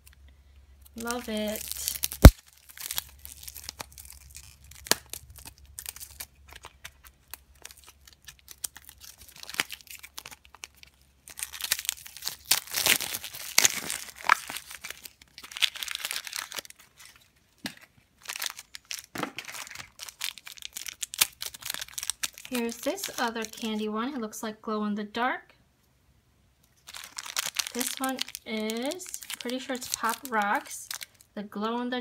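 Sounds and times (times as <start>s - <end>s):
foil bag crinkling and tearing: 1.0s - 17.5s, 18.1s - 23.7s, 26.8s - 31.3s.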